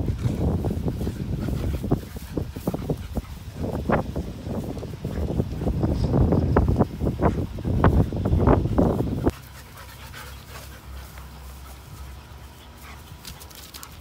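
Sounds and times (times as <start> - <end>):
dog panting: 0.0 - 14.0
dogs scuffling: 0.0 - 14.0.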